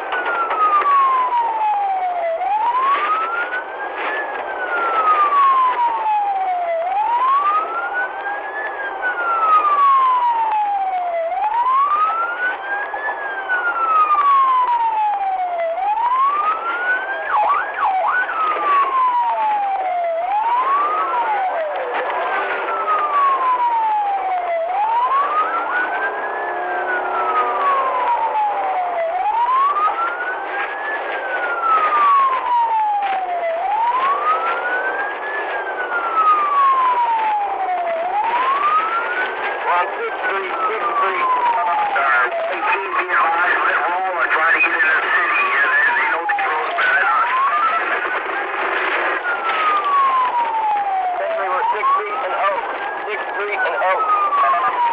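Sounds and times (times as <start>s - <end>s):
distant sirens: 0.0s - 54.9s
police siren wailing: 0.0s - 54.9s
road noise: 0.0s - 54.9s
siren yelps: 0.0s - 54.9s.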